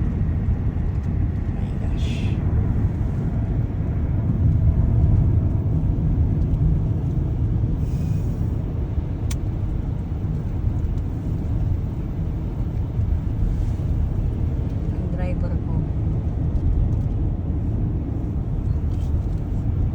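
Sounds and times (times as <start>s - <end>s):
car engine and road noise: 0.0s - 19.9s.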